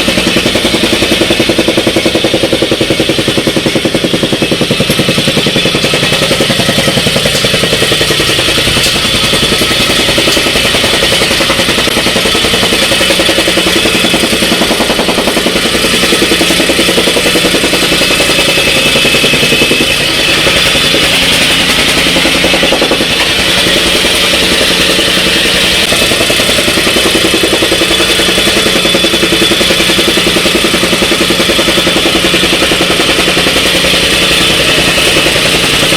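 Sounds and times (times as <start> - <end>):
rammer foot pounding ground: 0.0 - 35.9
tamping rammer engine: 0.0 - 35.9.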